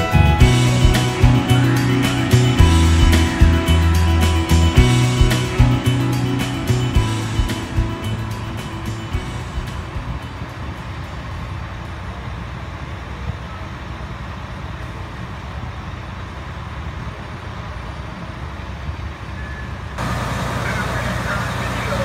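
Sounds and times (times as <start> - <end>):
fire engines rumbling: 0.0 - 22.0.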